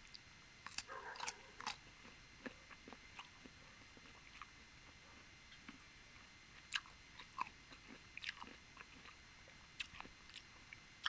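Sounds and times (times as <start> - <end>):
quiet chewing: 0.0 - 10.9.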